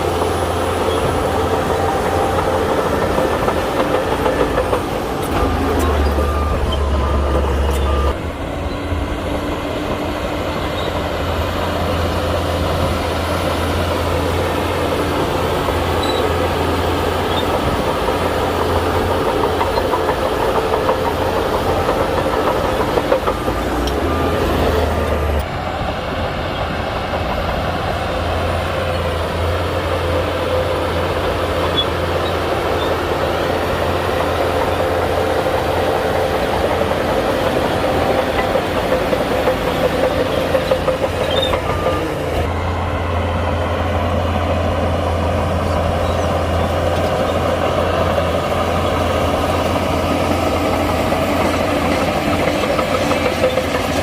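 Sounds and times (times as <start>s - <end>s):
bulldozer diesel engine running: 0.0s - 54.0s
steel tracks clattering: 0.0s - 54.0s.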